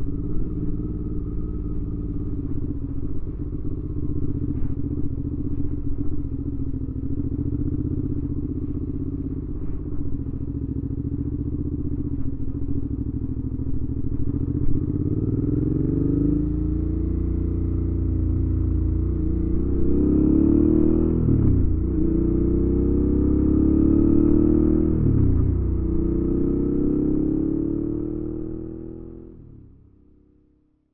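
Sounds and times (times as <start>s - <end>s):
motorcycle engine accelerating: 0.0s - 30.5s.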